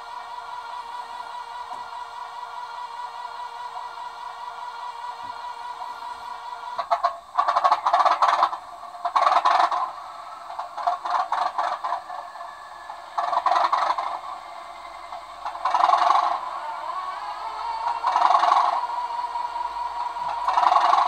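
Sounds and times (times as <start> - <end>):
model train scraping and rattling: 0.0 - 21.0.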